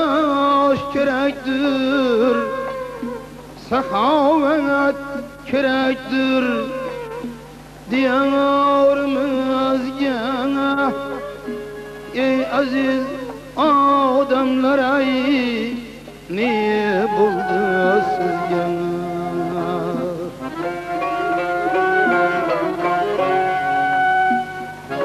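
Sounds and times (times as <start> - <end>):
man singing folk song: 0.0 - 25.0
plucked lutes: 0.0 - 25.0.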